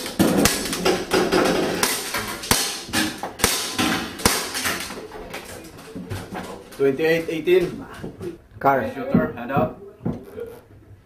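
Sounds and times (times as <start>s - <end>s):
light clacks and knocks: 0.0s - 10.9s.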